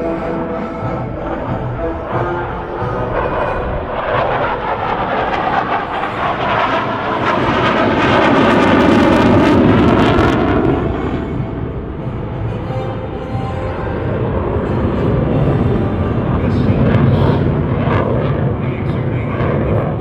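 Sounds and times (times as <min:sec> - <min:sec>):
fighter jet passing by: 0:00.0 - 0:20.0.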